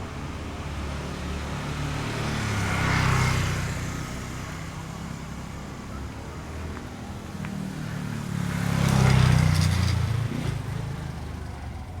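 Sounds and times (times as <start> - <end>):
vehicle passing by: 0.0 - 11.9.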